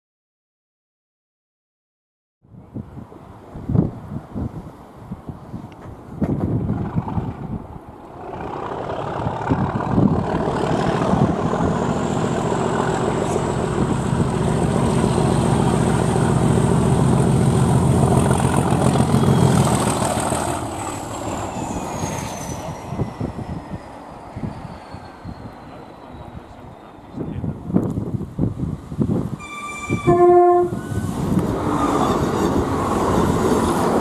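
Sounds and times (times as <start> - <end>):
diesel locomotive engine working hard: 6.3 - 34.0.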